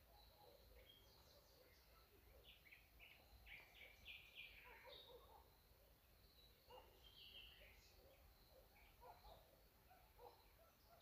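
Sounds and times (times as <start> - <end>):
faint bird chirps: 0.0 - 11.0
quiet background hiss: 0.0 - 11.0.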